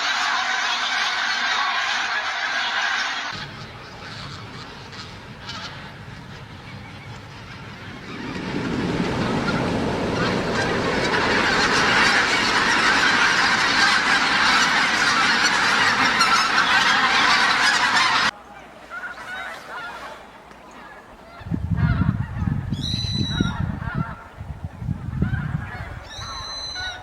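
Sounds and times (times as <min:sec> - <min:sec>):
geese honking: 0:00.0 - 0:27.0.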